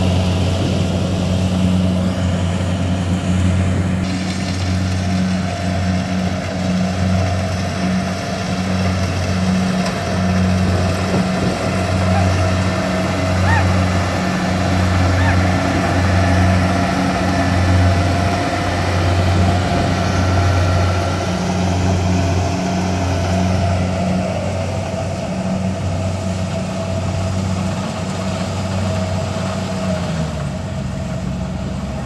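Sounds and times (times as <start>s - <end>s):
combine harvester engine hum: 0.0s - 32.0s
machinery noise: 0.0s - 32.0s.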